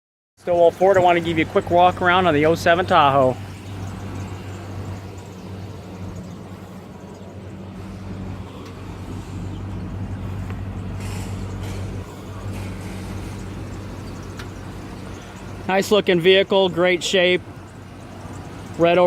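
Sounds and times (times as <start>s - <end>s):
vehicle engine idling: 0.4s - 19.0s.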